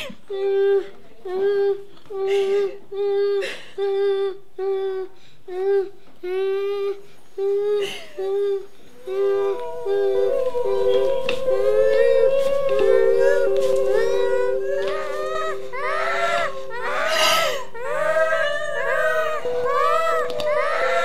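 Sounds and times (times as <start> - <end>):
person humming: 0.3 - 21.0.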